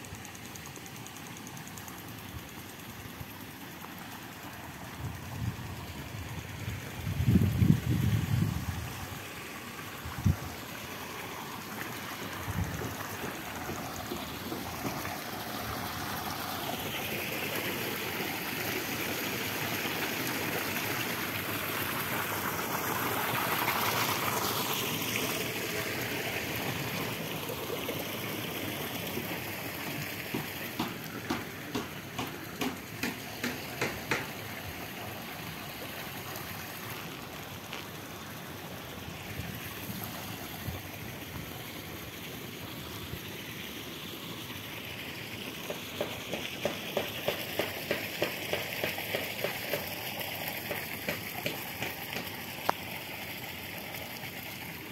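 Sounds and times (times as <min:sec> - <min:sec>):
water rushing and bubbling from jets: 0:00.0 - 0:54.9.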